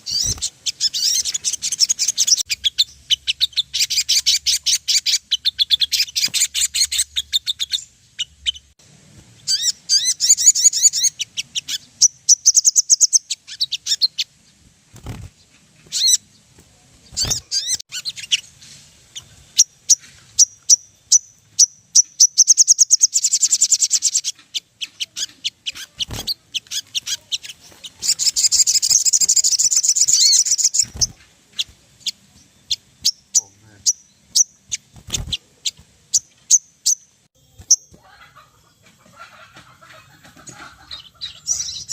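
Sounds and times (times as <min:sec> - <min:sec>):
songbird chirping and trilling: 0:00.0 - 0:41.9.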